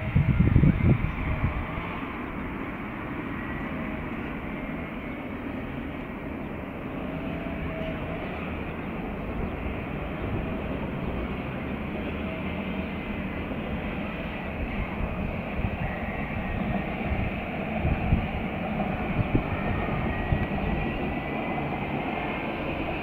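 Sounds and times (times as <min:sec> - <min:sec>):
distant tram rumbling: 0:00.0 - 0:23.0.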